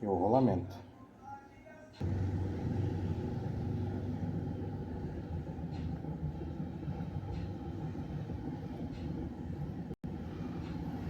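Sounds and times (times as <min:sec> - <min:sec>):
low mechanical rumble: 0:02.0 - 0:11.0.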